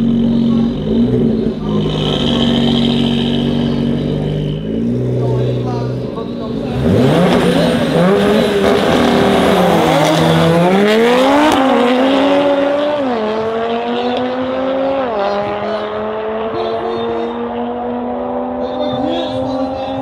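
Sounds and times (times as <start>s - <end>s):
car engines accelerating: 0.0s - 20.0s.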